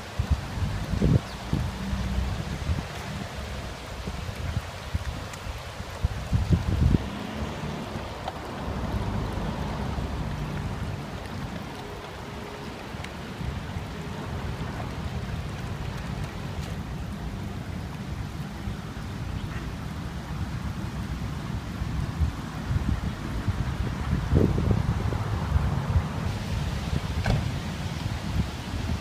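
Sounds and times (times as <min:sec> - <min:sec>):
wind buffeting microphone: 0:00.0 - 0:19.2, 0:20.4 - 0:29.0
river water rushing: 0:00.0 - 0:29.0.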